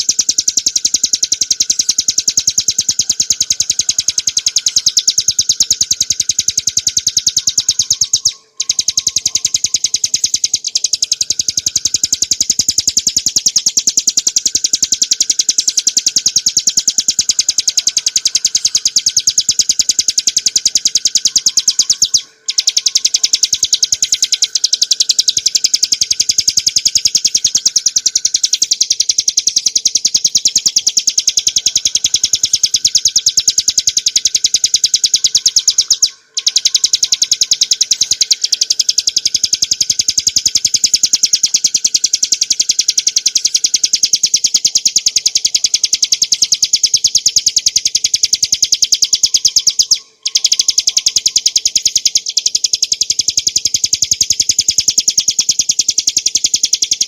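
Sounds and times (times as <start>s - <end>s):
bird singing rattling trill: 0.0s - 57.0s.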